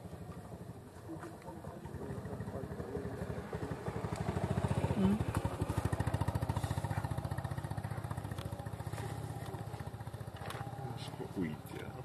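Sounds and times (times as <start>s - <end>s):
small engine puttering: 1.2s - 11.8s.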